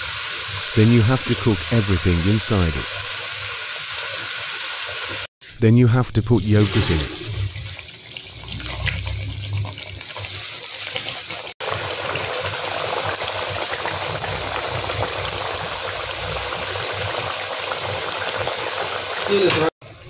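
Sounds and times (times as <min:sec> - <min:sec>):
sauce bubbling and sizzling: 0:00.0 - 0:05.3, 0:06.6 - 0:19.7.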